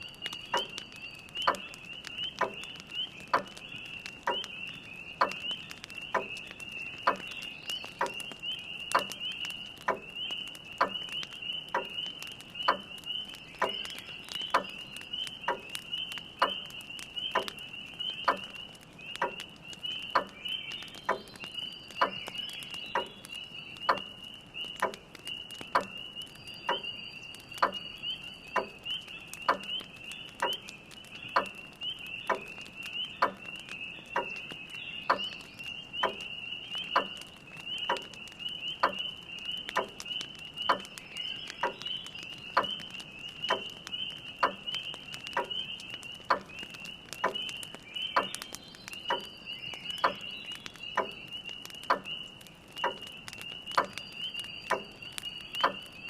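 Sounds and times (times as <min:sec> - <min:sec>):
faint fire crackling: 0:00.0 - 0:56.0
frogs peeping chorus: 0:00.0 - 0:56.0.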